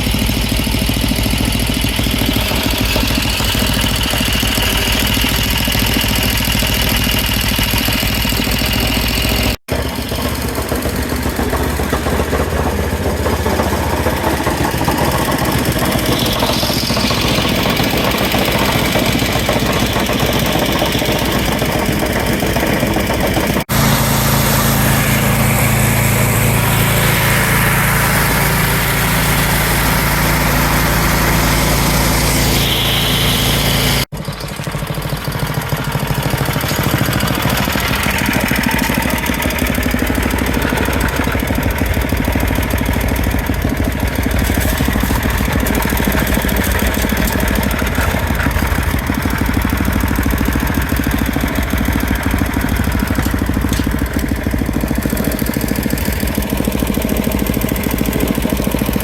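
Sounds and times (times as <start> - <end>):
snowblower engine running: 0.0 - 59.0.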